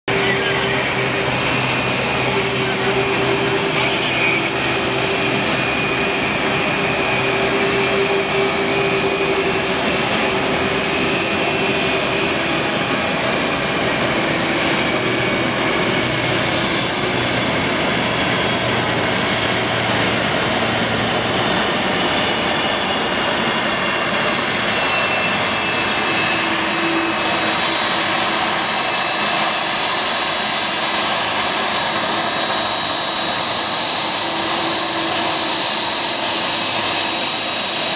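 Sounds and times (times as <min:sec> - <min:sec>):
jet engines taxiing: 0:00.1 - 0:37.9.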